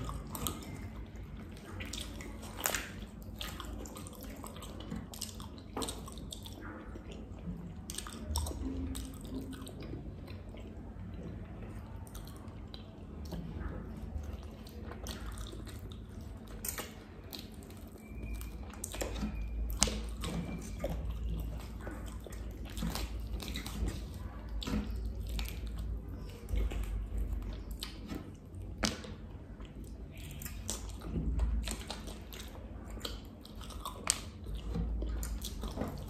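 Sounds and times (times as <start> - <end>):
wet chewing and lip-smacking: 0.0 - 36.0.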